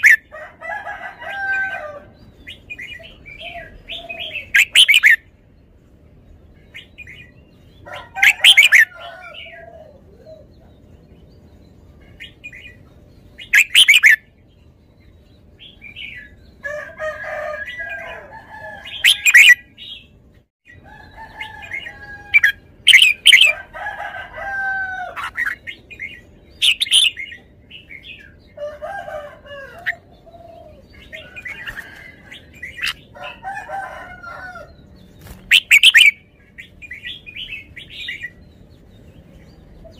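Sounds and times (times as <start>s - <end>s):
bird singing bright phrases: 1.2s - 5.3s, 6.6s - 24.2s, 25.2s - 39.9s.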